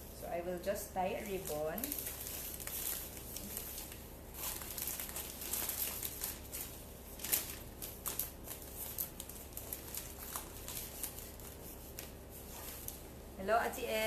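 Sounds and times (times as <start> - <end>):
wrapping paper crinkling: 0.1 - 14.0.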